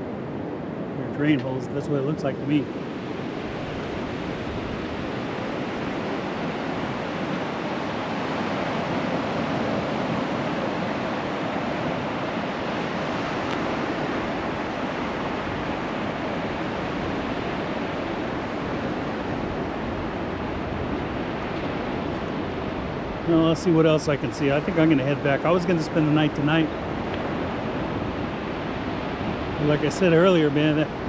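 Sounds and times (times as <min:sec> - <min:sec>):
wind on microphone: 0:00.0 - 0:31.0
surf breaking on beach: 0:00.8 - 0:31.0.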